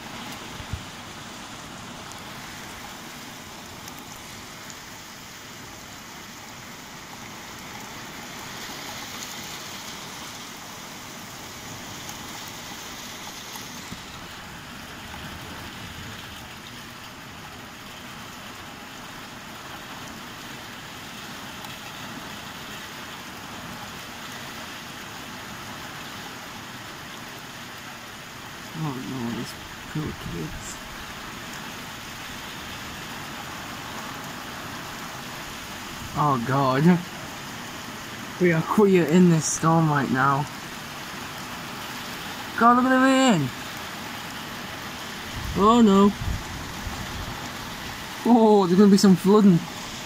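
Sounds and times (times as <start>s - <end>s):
rain falling steadily: 0.0s - 50.0s.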